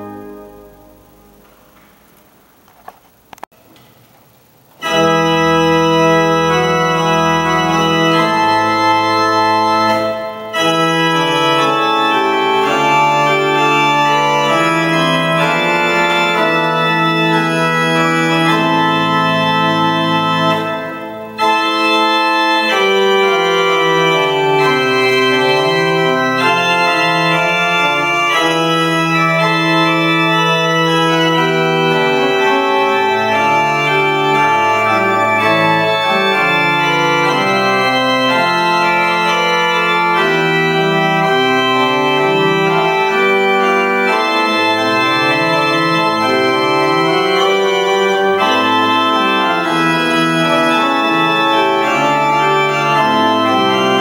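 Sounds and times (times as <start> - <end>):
pipe organ playing chords: 0.0 - 3.4, 4.3 - 54.0.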